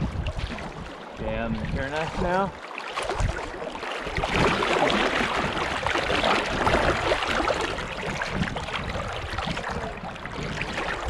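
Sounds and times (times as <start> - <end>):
river water rushing and splashing: 0.0 - 11.0.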